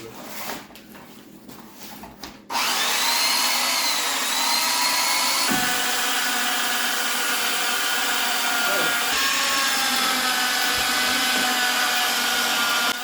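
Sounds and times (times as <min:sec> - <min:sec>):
electric winch motor whining: 0:02.5 - 0:13.0.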